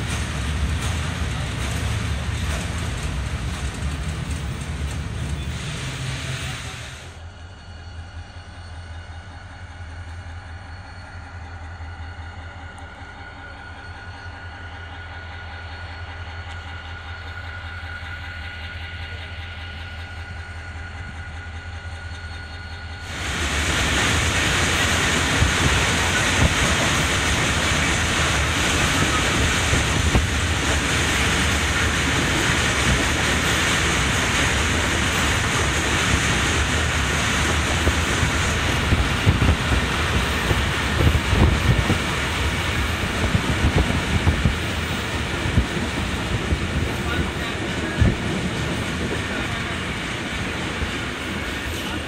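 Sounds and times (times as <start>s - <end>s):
train running on rails: 0.0s - 52.0s.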